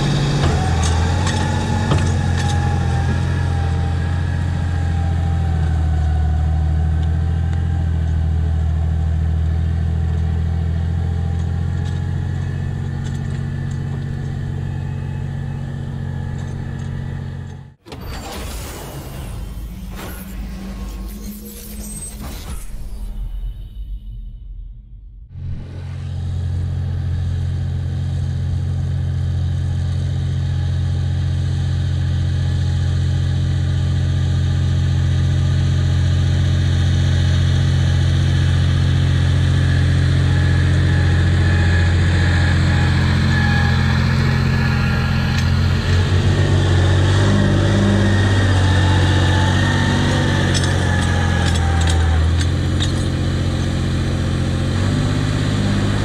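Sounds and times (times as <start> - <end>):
tractor diesel engine running: 0.0 - 17.8, 25.4 - 56.0.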